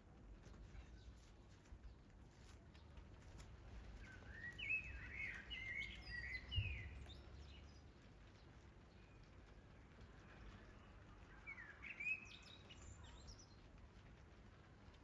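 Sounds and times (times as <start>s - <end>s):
light rain ticking: 0.0s - 15.0s.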